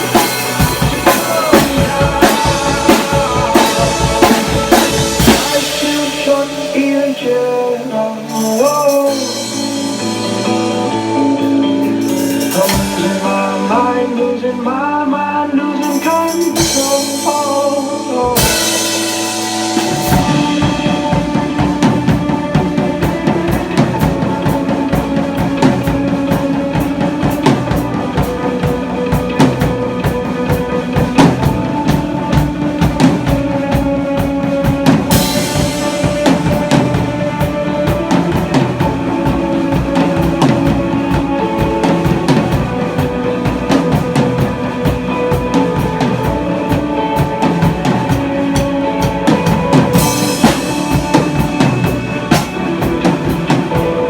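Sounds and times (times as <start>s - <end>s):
drum kit beat: 0.0s - 14.8s, 15.7s - 54.0s
recorded rock song: 0.0s - 54.0s.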